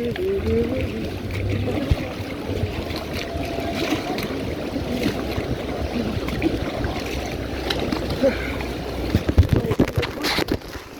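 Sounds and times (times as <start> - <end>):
river water rushing: 0.0 - 10.9
wind buffeting microphone: 0.0 - 10.9.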